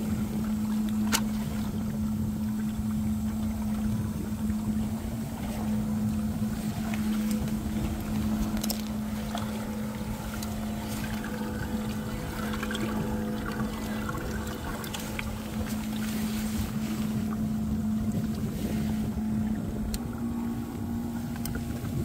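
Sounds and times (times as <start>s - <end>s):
air pump buzzing hum: 0.0s - 22.0s
water splashing and bubbling: 0.0s - 22.0s.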